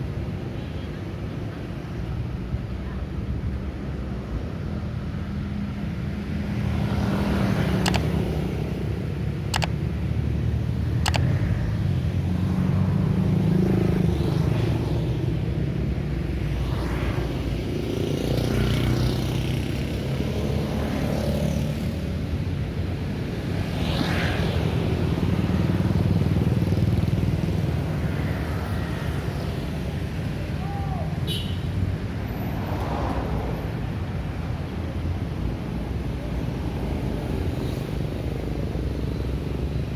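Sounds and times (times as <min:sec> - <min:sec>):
motorcycles and cars passing: 0:00.0 - 0:39.9.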